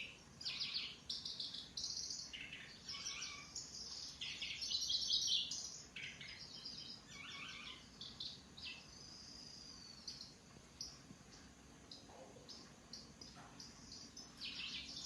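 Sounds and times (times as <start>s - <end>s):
songbird chattering song: 0.0s - 15.0s.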